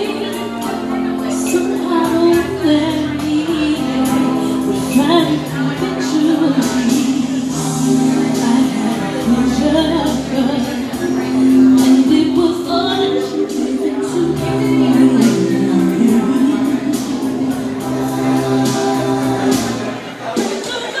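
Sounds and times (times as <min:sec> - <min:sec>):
backing track with steady beat: 0:00.0 - 0:21.0
woman singing into microphone: 0:00.0 - 0:21.0.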